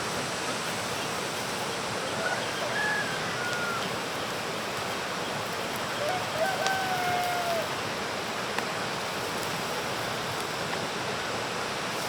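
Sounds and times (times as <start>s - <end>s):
rushing outdoor background noise: 0.0s - 12.0s.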